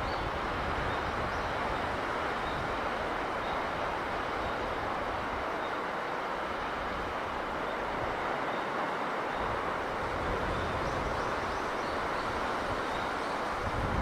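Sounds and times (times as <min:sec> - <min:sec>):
sea breeze wind: 0:00.0 - 0:14.0
sea rushing: 0:00.0 - 0:14.0.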